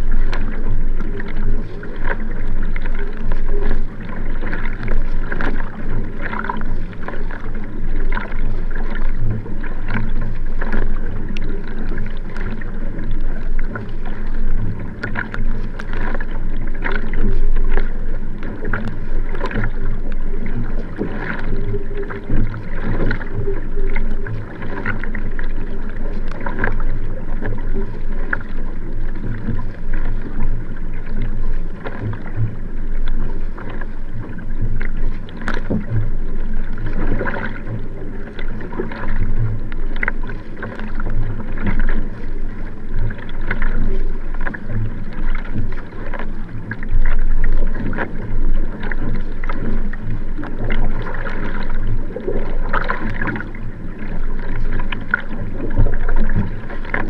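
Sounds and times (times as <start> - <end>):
paddle blades splashing: 0.0 - 57.0
water rushing along kayak hull: 0.0 - 57.0.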